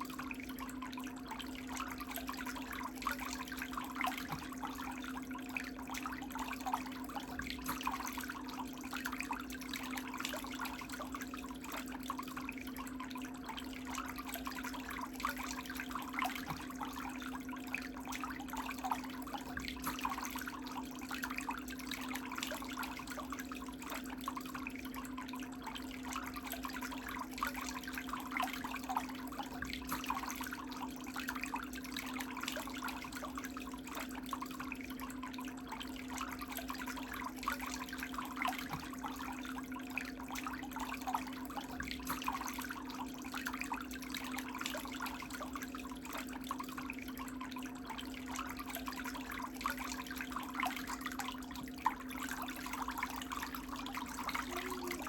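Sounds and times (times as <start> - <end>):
water bubbling in foot bath: 0.0 - 55.0.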